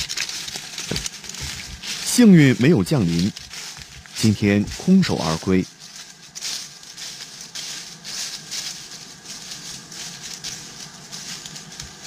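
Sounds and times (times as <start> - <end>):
footsteps crunching on dry leaves: 0.0 - 12.0.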